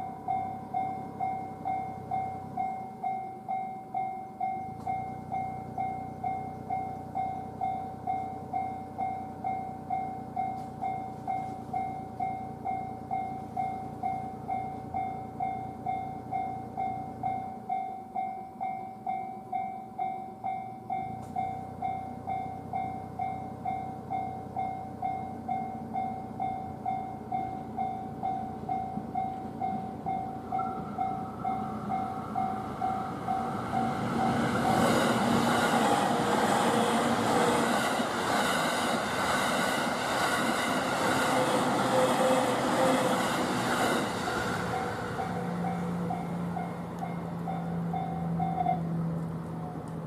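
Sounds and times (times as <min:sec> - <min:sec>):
level crossing alarm bell: 0:00.0 - 0:36.3, 0:44.5 - 0:48.9
passing train rumble: 0:00.0 - 0:50.0.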